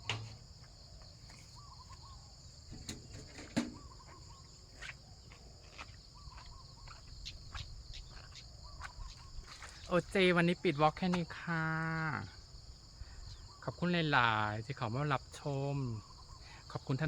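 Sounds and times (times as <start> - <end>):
short wavering insect call: 0.0 - 10.8, 11.5 - 17.0
insects chirring: 0.0 - 17.0.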